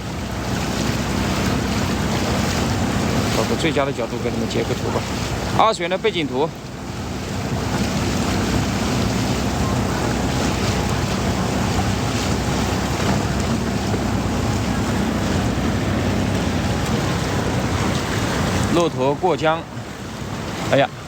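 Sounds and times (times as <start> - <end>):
small outboard motor running: 0.0 - 21.0.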